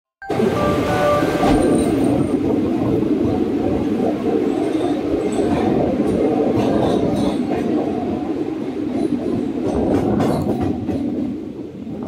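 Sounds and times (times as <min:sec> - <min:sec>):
train rumbling in tunnel: 0:00.3 - 0:12.0.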